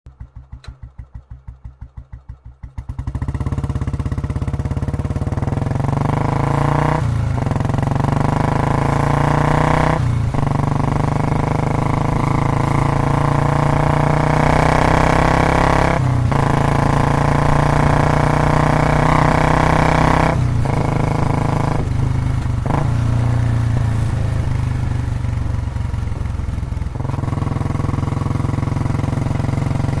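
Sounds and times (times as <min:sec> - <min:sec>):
motorcycle engine starting and revving: 0:00.1 - 0:30.0.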